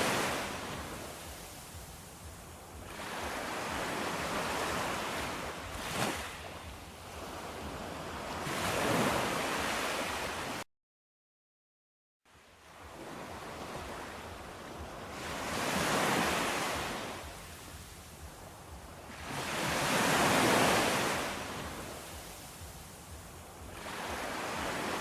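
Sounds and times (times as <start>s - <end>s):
ocean waves washing in: 0.0s - 10.6s, 12.3s - 25.0s.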